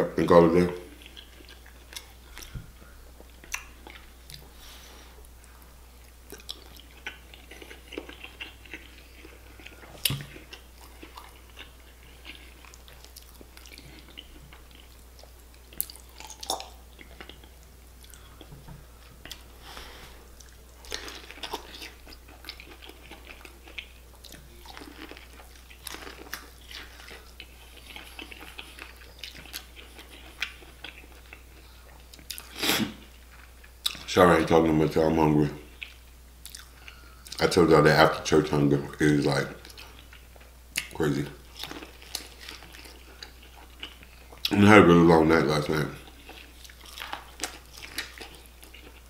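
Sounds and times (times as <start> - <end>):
chewing and wet mouth smacking: 0.9 - 4.6, 5.2 - 19.5, 20.4 - 32.6, 35.7 - 37.5, 39.6 - 44.6, 46.0 - 49.0.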